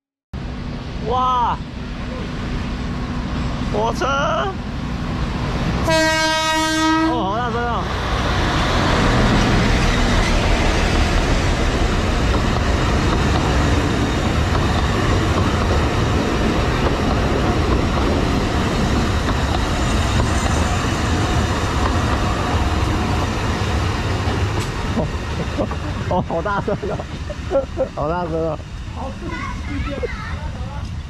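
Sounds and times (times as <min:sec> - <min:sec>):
diesel locomotive passing: 0:00.4 - 0:31.0
passenger cars rolling on track: 0:00.4 - 0:31.0.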